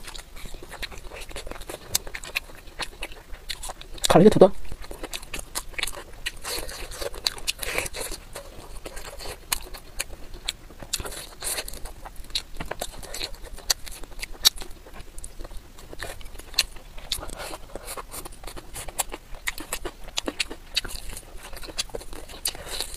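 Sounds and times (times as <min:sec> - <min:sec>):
chewing and crunching: 0:00.0 - 0:22.9.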